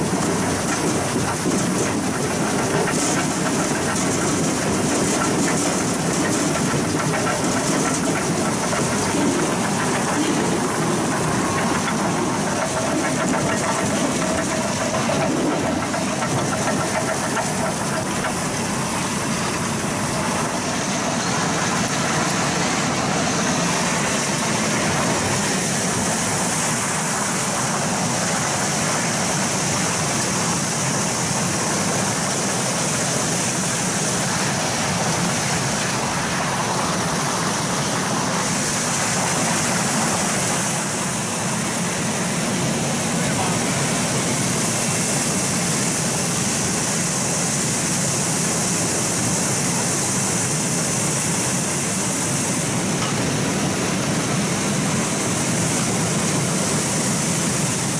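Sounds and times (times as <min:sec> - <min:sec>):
churning spraying water: 0:00.0 - 0:57.9.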